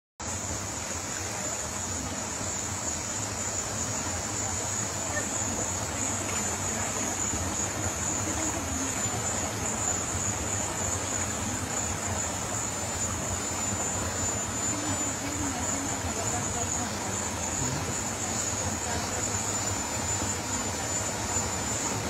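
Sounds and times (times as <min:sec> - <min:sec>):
insects droning: 0:00.2 - 0:22.0.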